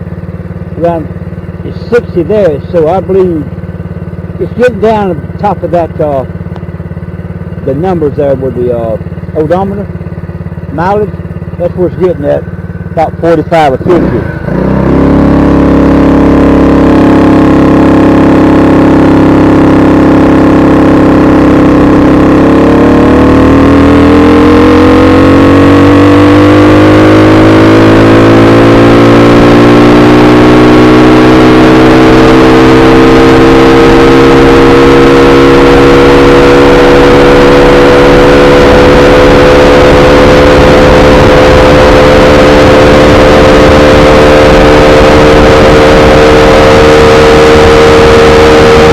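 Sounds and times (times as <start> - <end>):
small motorbike engine revving: 0.0 - 48.9
wind and road noise: 0.0 - 48.9.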